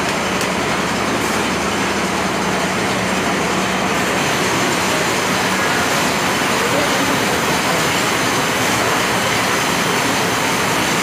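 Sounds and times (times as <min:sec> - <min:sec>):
packing machines running: 0:00.0 - 0:11.0.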